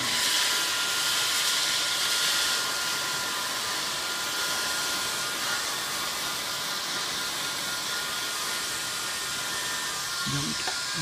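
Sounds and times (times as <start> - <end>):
faint steady whine: 0.0 - 11.0
heat gun blowing air: 0.0 - 11.0.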